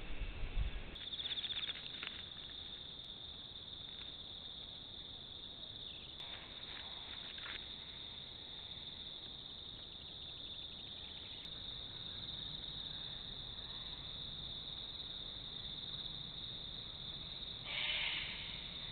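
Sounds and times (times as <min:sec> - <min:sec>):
high insect chirring: 0:01.0 - 0:18.9.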